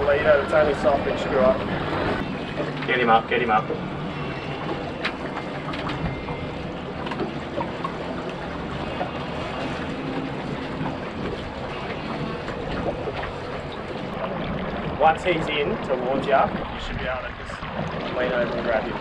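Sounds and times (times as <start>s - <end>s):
water against boat hull: 0.0s - 19.0s.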